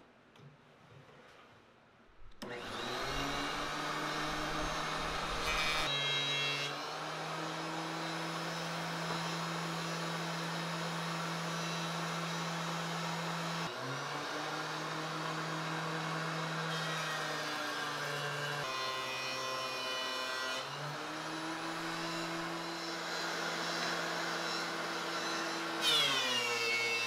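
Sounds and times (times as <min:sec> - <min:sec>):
thickness planer whine: 0:02.4 - 0:27.0.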